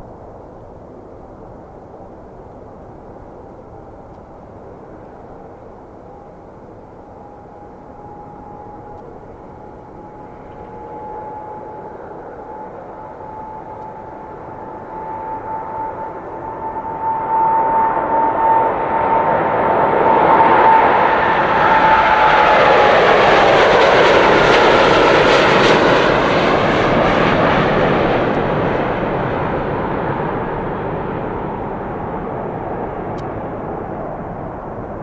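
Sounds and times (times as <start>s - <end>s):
jet engines roaring at takeoff: 0.0s - 35.0s
high engine whine: 2.8s - 35.0s.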